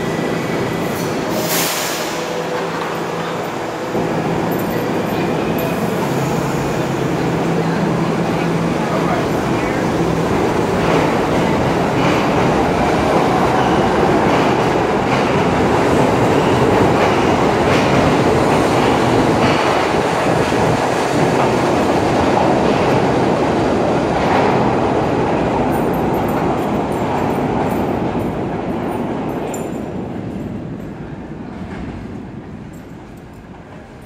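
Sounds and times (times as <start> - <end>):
subway train rumble and rattle: 0.0 - 34.0.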